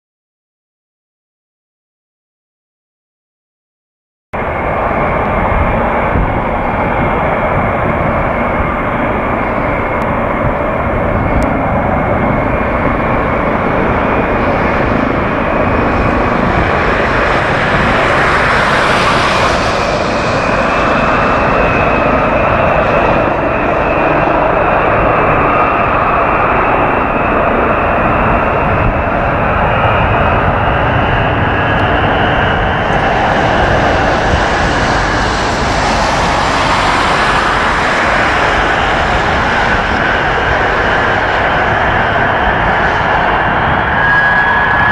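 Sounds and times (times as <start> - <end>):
jet engines roaring with whine: 4.4 - 44.9.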